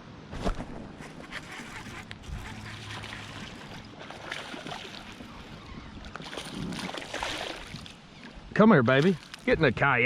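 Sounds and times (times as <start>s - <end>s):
water splashing around a kayak: 1.0s - 9.5s.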